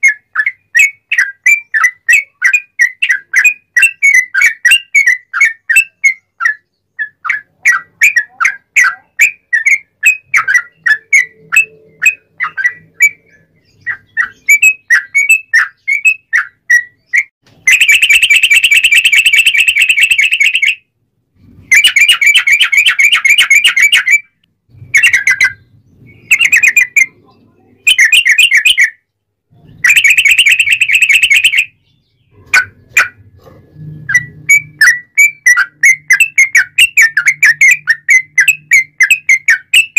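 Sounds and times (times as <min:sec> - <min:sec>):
bird singing whistled notes: 0:00.0 - 0:27.2, 0:27.8 - 0:33.2, 0:33.8 - 0:39.9
bird trilling: 0:00.0 - 0:39.9.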